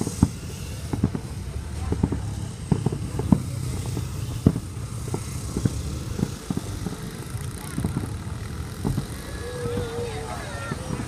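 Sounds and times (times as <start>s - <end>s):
distant fireworks booming: 0.0s - 11.0s
low rumble of crowd and traffic: 0.0s - 11.0s.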